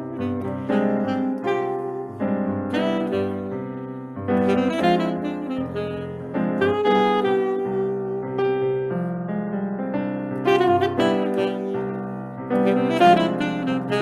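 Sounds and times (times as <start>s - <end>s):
saxophone playing: 0.0s - 8.9s, 10.4s - 14.0s
piano striking chords: 0.0s - 14.0s.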